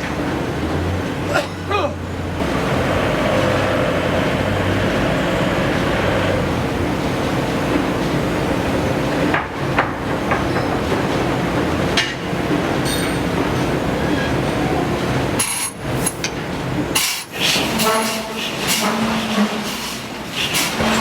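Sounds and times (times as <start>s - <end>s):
shop machinery hum: 0.0s - 21.0s.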